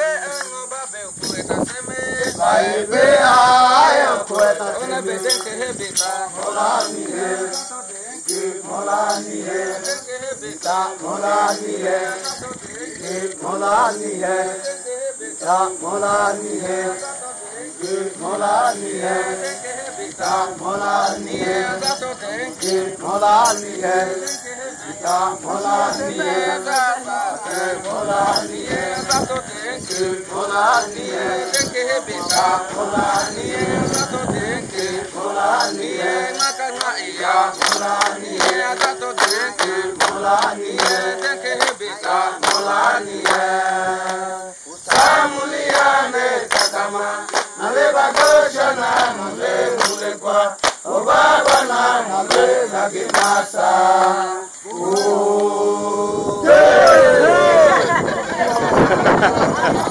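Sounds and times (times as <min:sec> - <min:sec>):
group singing chanted song: 0:00.0 - 0:59.9.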